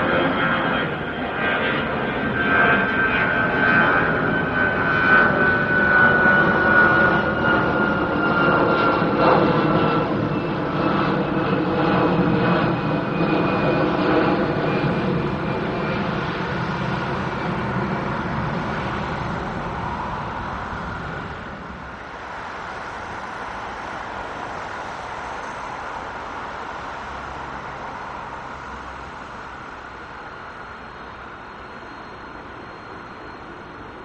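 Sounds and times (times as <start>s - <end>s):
jet engines with high whine: 0.0s - 34.0s.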